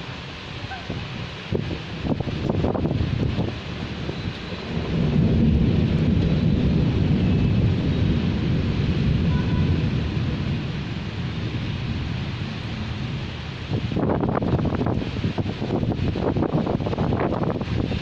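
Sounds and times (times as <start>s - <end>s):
rain: 0.0s - 18.0s
wind: 0.0s - 18.0s
thunder rumbling: 0.8s - 18.0s.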